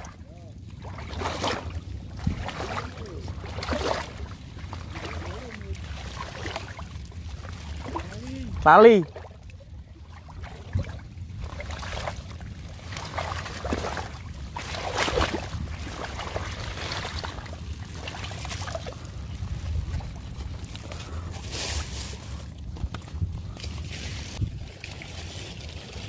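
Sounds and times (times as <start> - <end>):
steady low rumble: 0.0 - 24.8
light splashing water: 0.0 - 26.0
rustling of water plants: 0.0 - 26.0.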